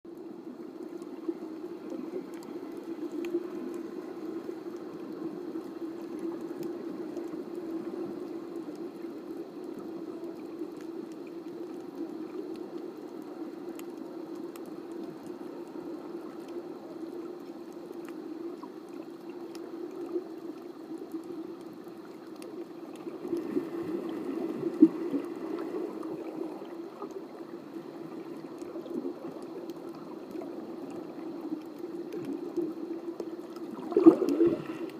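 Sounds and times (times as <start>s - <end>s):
faint ticks: 0.1s - 34.9s
underwater rush of water: 0.2s - 34.9s.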